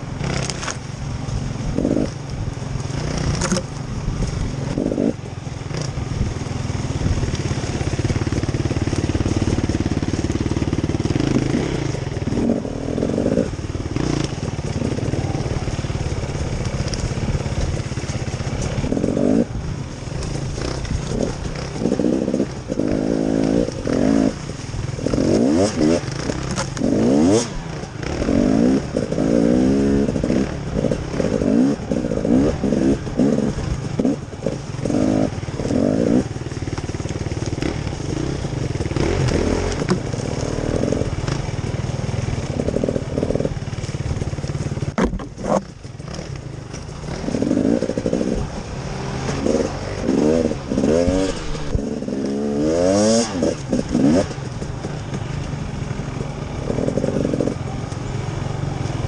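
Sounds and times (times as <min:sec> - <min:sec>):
small engine revving: 0:00.0 - 0:02.2, 0:02.8 - 0:59.0.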